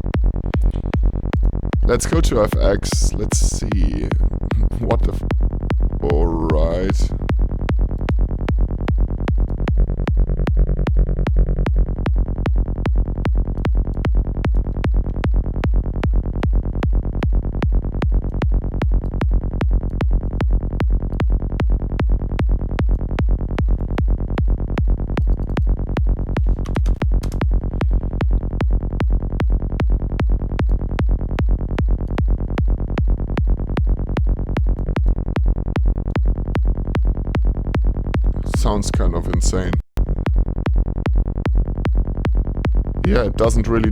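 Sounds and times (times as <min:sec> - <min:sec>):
synthesized psytrance bassline: 0:00.0 - 0:43.9.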